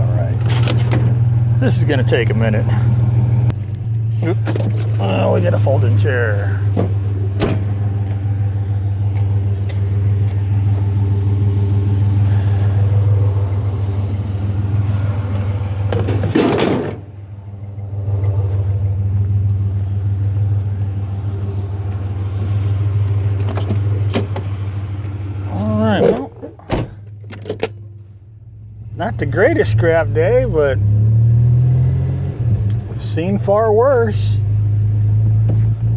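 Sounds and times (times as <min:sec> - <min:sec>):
vehicle engine humming: 0:00.0 - 0:35.9.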